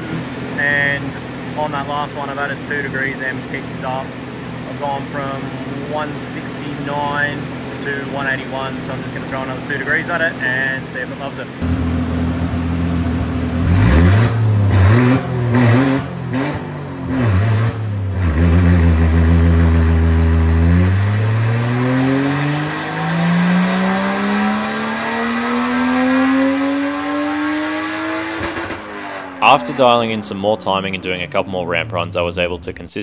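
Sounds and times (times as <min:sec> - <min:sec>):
car engine revving on a dyno: 0:00.0 - 0:30.6.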